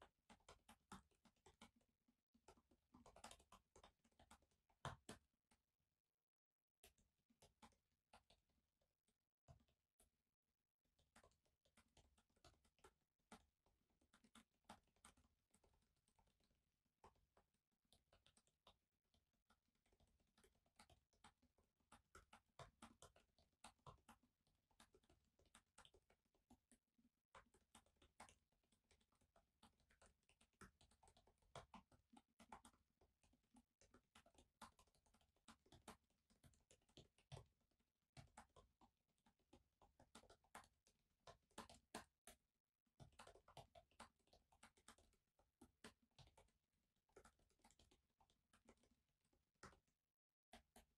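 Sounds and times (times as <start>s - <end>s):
typing on laptop keyboard: 0.0s - 5.7s, 6.8s - 10.2s, 10.9s - 50.9s.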